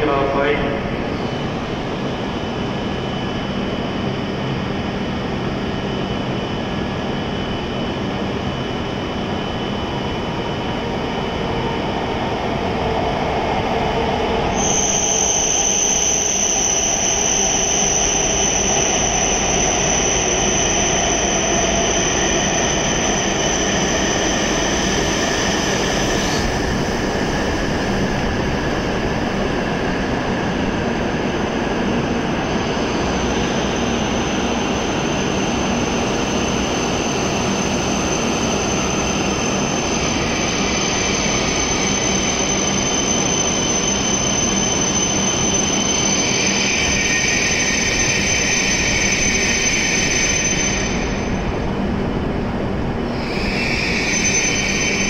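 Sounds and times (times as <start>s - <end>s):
high steady whine: 0.0s - 55.0s
train arriving and slowing: 0.0s - 55.0s.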